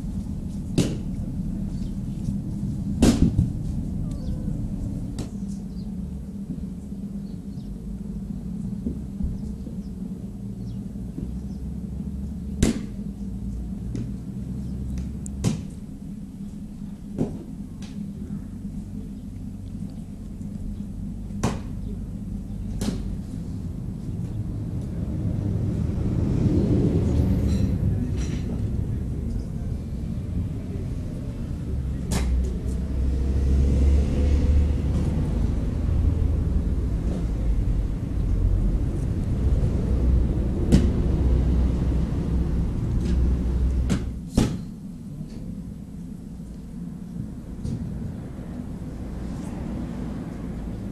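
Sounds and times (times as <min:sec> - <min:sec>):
steady low rumble: 0:00.0 - 0:50.9.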